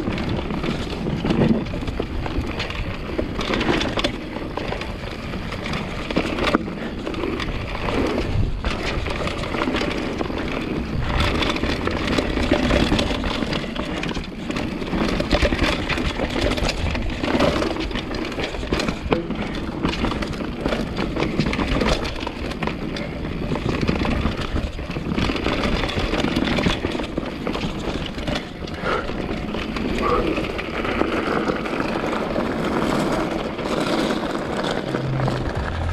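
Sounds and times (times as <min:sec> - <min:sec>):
bike rattles and clicks: 0:00.0 - 0:35.9
bike tyres rolling over dirt: 0:00.0 - 0:35.9.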